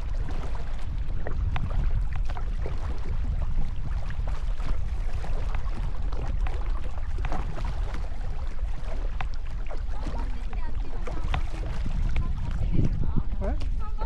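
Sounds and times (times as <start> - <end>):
water splashing around a canoe: 0.0 - 14.0
wind rumble on microphone: 0.0 - 14.0.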